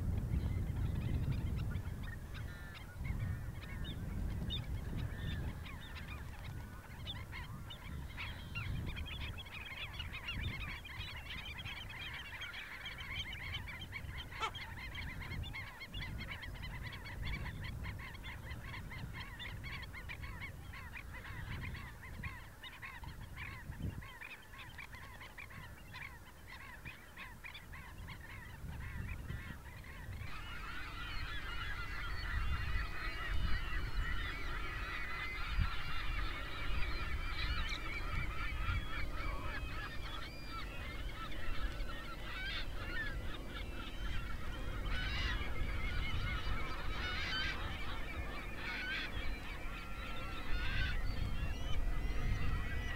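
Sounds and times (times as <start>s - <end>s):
waterbirds calling: 4.7s - 52.9s.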